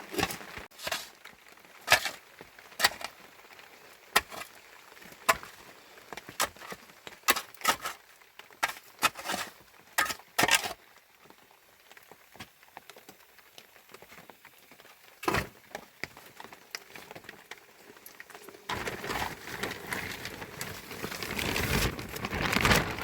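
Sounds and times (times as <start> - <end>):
dense crackling rustle: 0.0 - 23.0.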